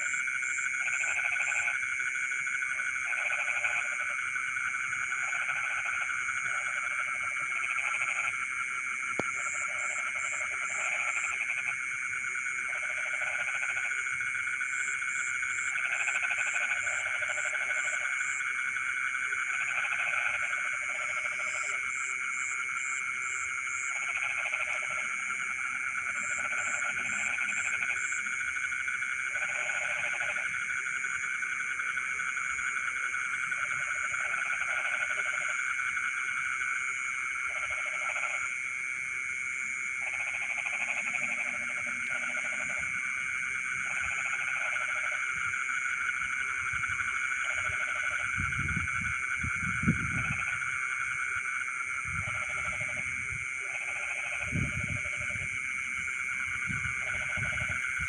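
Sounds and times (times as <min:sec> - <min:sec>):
frogs calling in chorus: 0:00.0 - 0:58.0
high pulsed frog trills: 0:00.0 - 0:58.0.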